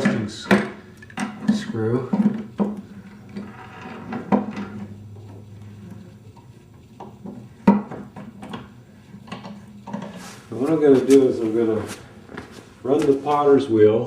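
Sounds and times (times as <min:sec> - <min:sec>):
metal scraping and rubbing: 0:01.3 - 0:13.5.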